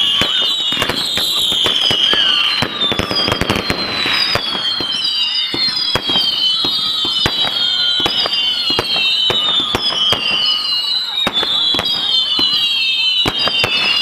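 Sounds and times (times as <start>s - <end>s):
firework bangs and crackles: 0.0s - 14.0s
whistling fireworks: 0.0s - 14.0s.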